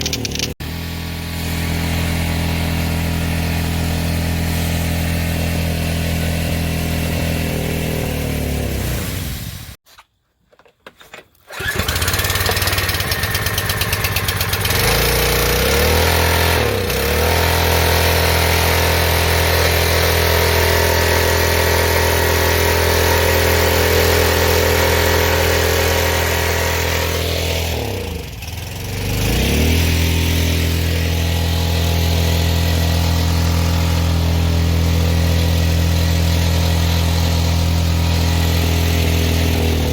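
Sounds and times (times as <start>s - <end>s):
small gas engine running: 0.0s - 9.8s, 11.5s - 39.9s.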